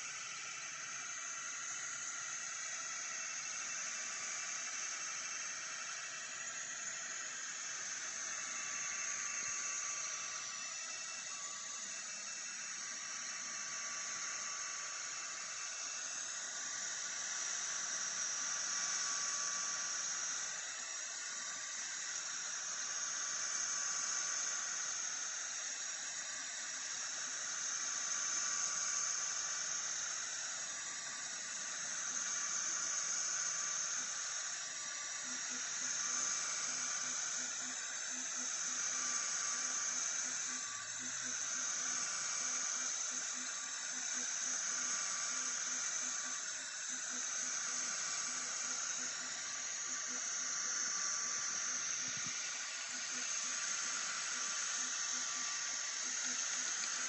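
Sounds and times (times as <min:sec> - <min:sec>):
faint stepper motor whine: 0:00.0 - 0:57.0.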